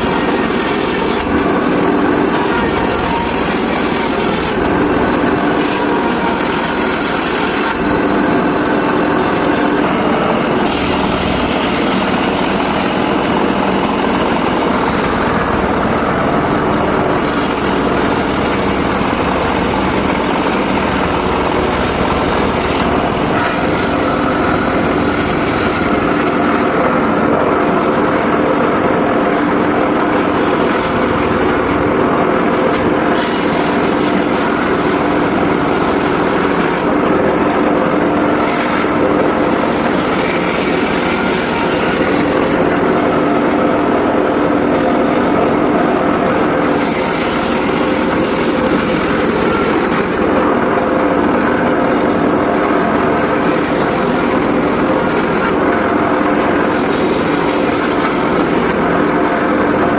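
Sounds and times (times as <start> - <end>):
circular saw cutting wood: 0.0 - 59.8.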